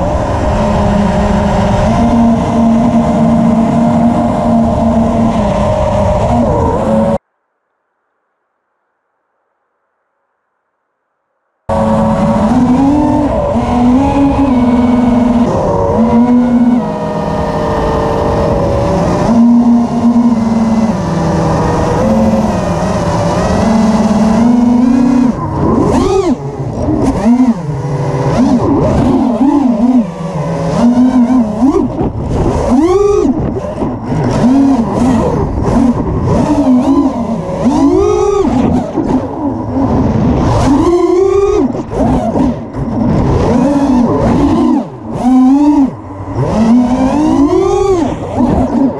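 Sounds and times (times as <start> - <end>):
drone motors whining: 0.0 - 7.2, 11.7 - 48.9.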